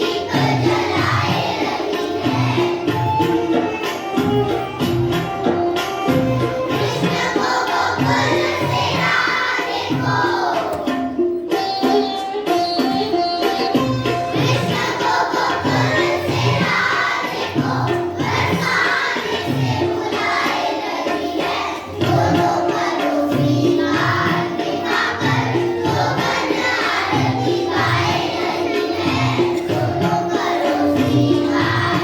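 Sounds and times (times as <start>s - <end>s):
children's choir singing: 0.0s - 12.0s, 14.3s - 32.0s
musical accompaniment with steady beat: 0.0s - 32.0s.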